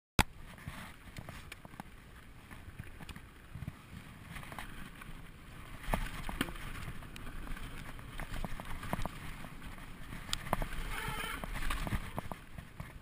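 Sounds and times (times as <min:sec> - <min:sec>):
bike clicks and rattles: 0:00.2 - 0:13.0
bike tyres rumbling over dirt: 0:00.2 - 0:13.0.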